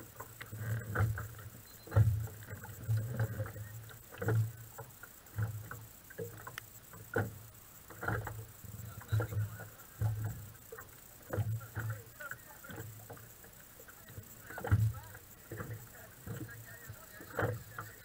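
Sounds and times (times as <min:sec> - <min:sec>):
waves slapping against boat hull: 0:00.0 - 0:18.0.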